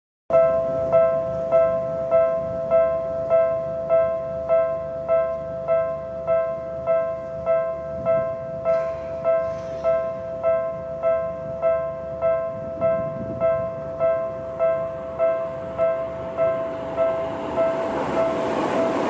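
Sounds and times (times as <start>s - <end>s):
level-crossing alarm ringing: 0.3s - 19.0s.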